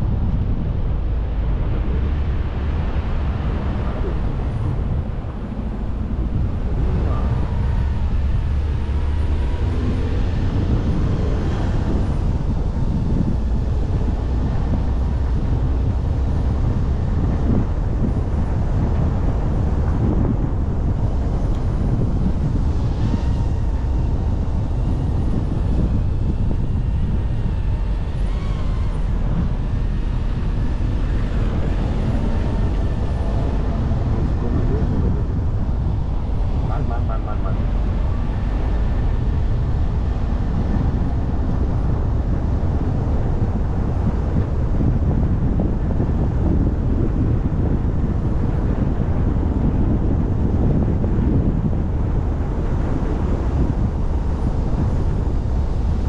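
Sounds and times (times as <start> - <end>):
vehicle rumble: 0.0 - 56.0.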